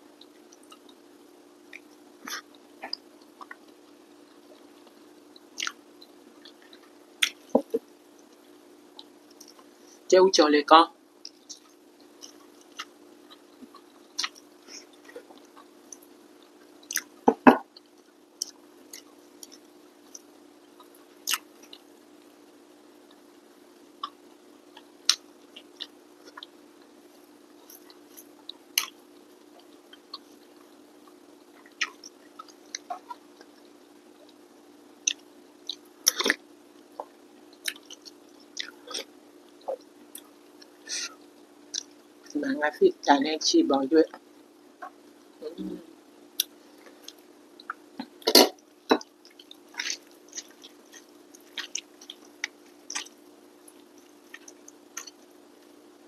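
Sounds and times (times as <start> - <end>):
faint steady hum: 0.0 - 56.0
chewing and mouth sounds: 0.2 - 1.0, 1.6 - 9.8, 11.2 - 22.5, 23.9 - 41.0, 41.7 - 42.4, 46.3 - 55.8.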